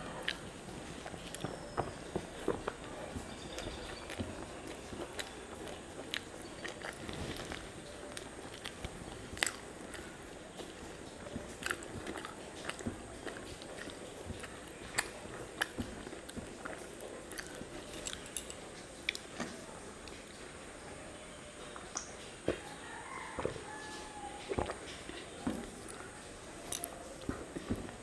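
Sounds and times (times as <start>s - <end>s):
person chewing food: 0.0s - 20.4s, 22.0s - 28.0s.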